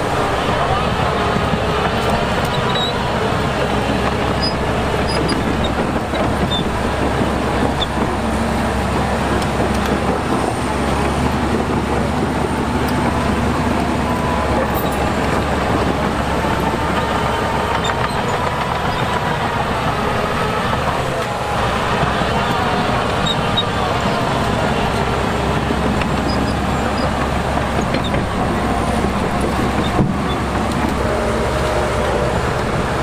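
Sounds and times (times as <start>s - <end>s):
heavy diesel engine under load: 0.0s - 33.0s.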